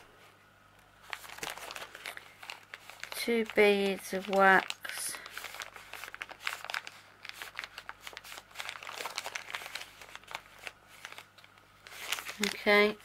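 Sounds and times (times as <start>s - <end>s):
plastic bag crinkling: 1.0s - 13.0s.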